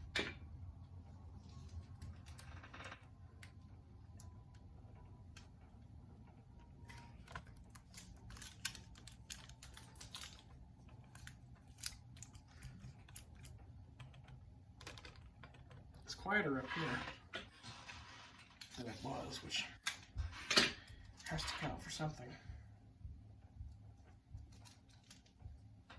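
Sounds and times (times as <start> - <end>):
low room rumble: 0.0 - 25.9.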